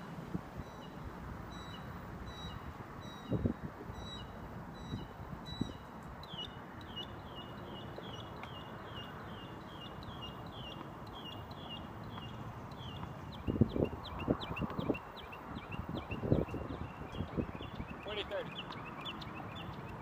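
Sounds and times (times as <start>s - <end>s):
outdoor noise: 0.0s - 20.0s
songbird chirping: 0.6s - 20.0s.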